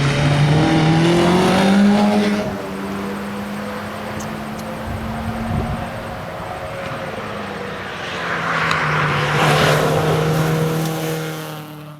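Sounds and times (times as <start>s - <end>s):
car engine running: 0.0s - 11.6s
road and tyre noise: 0.0s - 11.9s.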